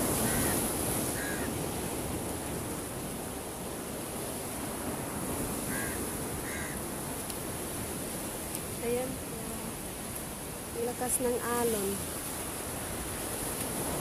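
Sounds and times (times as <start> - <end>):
sea waves breaking on rocks: 0.0 - 14.0.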